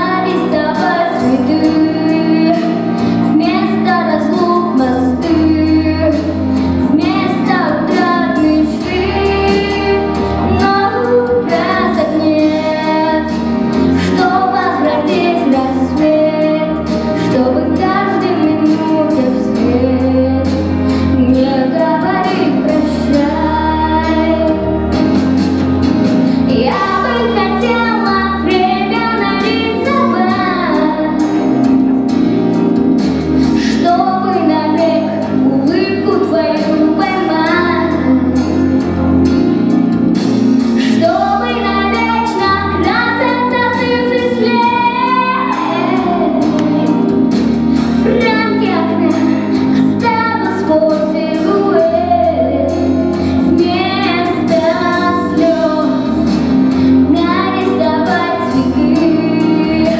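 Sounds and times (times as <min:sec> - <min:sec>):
girl singing into microphone: 0:00.0 - 0:25.0, 0:26.3 - 0:31.5, 0:33.4 - 0:39.0, 0:40.8 - 0:59.9
instrumental accompaniment with bass: 0:00.0 - 0:59.9.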